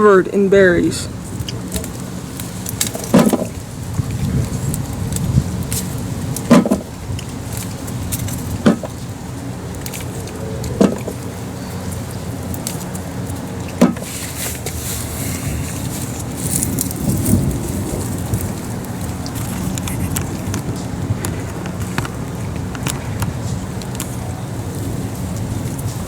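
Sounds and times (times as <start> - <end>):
low wind rumble: 0.0 - 26.0.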